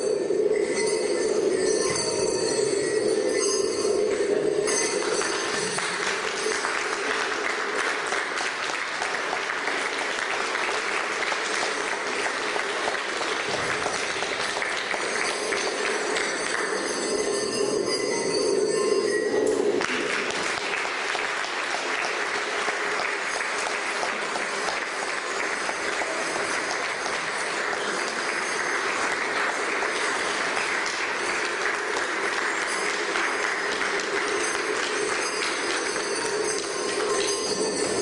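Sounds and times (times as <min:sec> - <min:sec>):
lion dance percussion: 0:00.7 - 0:38.0
audience applause: 0:04.8 - 0:17.4, 0:19.8 - 0:38.0.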